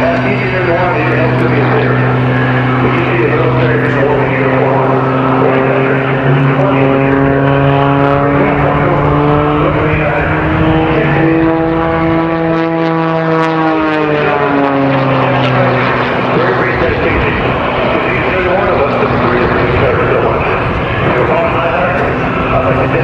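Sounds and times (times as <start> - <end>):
propeller airplane engine drone: 0.0 - 23.0.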